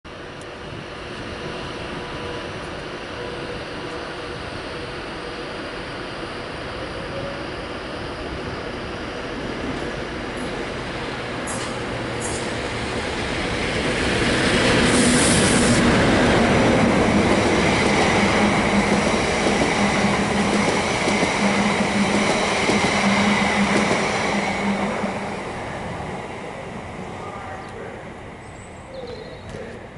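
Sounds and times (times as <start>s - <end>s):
diesel locomotive passing: 0.1s - 29.9s
train wheels rumbling on track: 0.1s - 29.9s.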